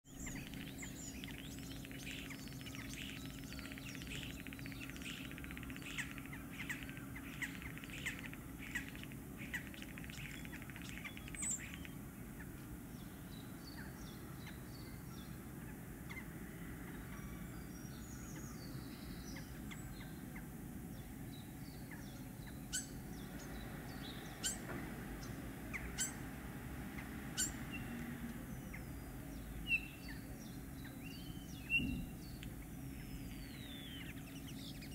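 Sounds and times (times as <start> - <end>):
low background hum: 0.1 - 34.9.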